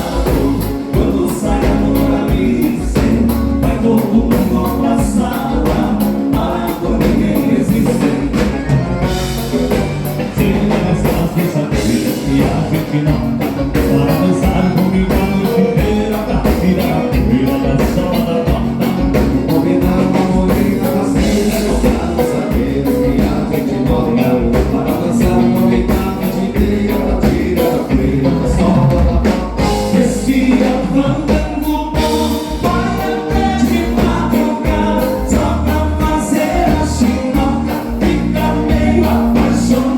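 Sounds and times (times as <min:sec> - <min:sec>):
band playing: 0:00.0 - 0:39.9
person singing: 0:00.0 - 0:39.9
steady drum beat: 0:00.0 - 0:39.9.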